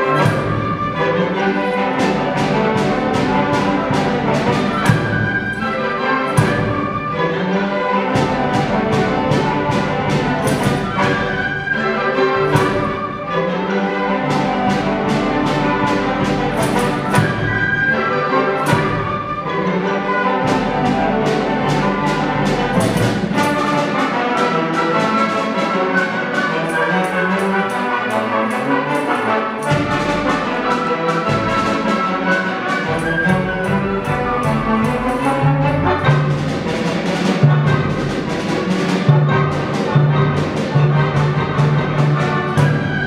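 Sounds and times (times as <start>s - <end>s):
sharp percussion strokes: 0.0s - 7.2s, 8.0s - 19.5s, 20.2s - 43.0s
orchestra playing: 0.0s - 43.0s.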